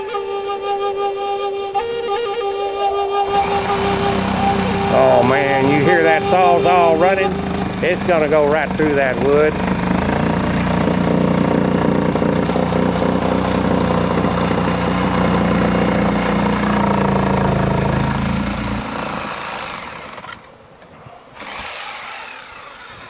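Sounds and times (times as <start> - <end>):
electric drill boring into wood: 3.3 - 20.5, 21.4 - 23.0.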